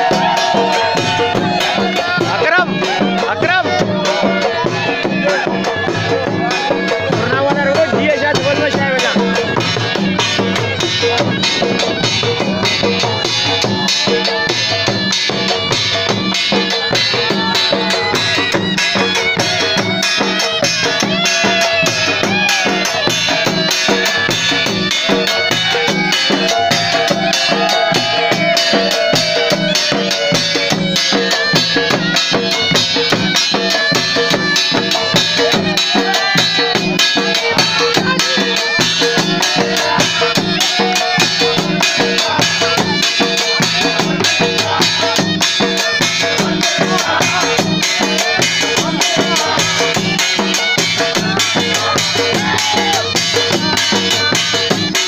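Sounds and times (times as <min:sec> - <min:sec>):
barrel drums fast rhythm: 0:00.0 - 0:55.0.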